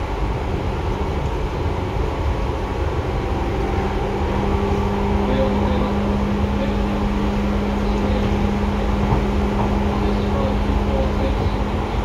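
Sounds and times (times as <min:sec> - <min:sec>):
low hum: 0:00.0 - 0:12.0
train wheels rumbling: 0:00.0 - 0:12.0.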